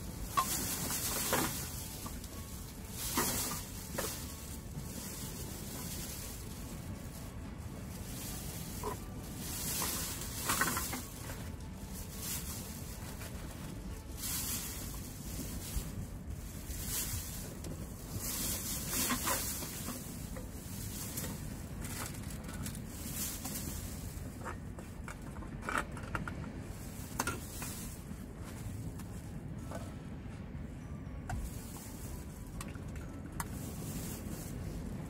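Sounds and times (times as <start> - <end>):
plastic bag rustling: 0.0 - 25.6, 26.5 - 29.7, 31.4 - 35.0
wind rumble on microphone: 0.0 - 35.0.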